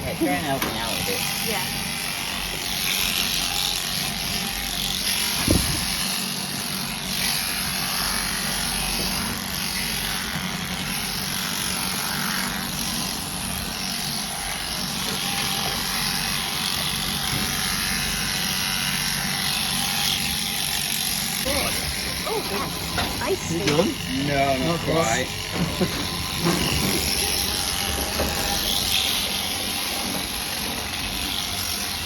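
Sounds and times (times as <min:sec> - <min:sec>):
electric sheep clippers humming: 0:00.0 - 0:32.0.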